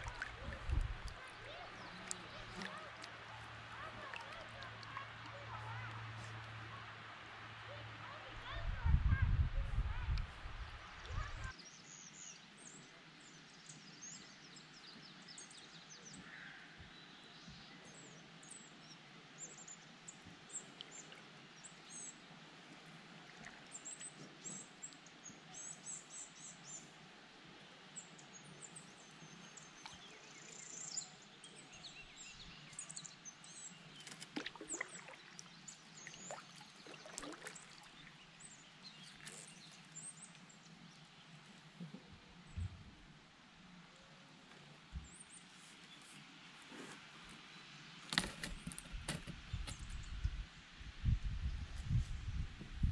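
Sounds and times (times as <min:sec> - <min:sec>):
outdoor background hiss: 0:00.0 - 0:09.2, 0:09.8 - 0:52.9
faint birds chirping: 0:00.0 - 0:52.9.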